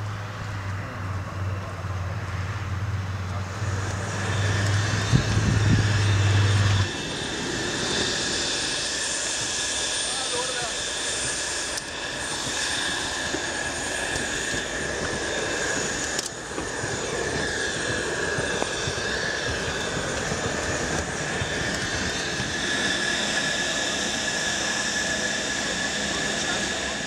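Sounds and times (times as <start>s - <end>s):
jet engine rushing and whining: 0.0s - 27.0s.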